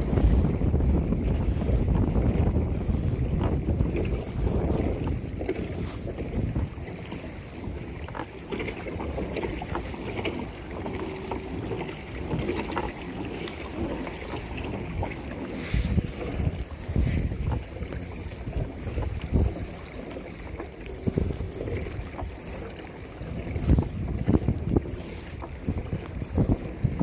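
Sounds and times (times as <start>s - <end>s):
kayak paddle splashes and drips: 0.0s - 27.0s
wind rumbling on microphone: 0.0s - 27.0s.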